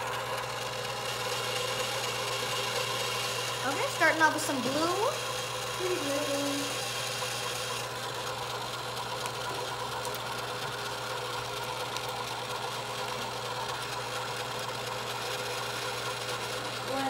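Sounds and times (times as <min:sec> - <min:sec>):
small motor whirring: 0:00.0 - 0:17.0.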